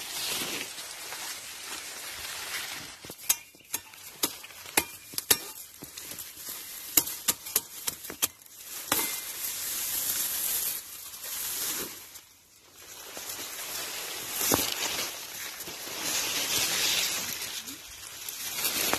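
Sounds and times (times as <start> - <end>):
dry leaves and stalks rustling: 0.0 - 18.9.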